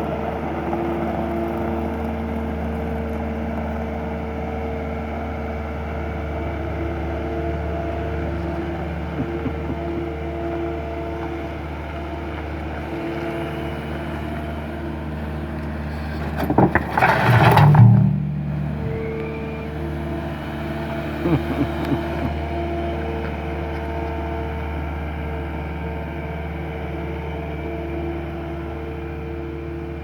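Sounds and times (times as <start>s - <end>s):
skid steer engine running: 0.0s - 30.0s.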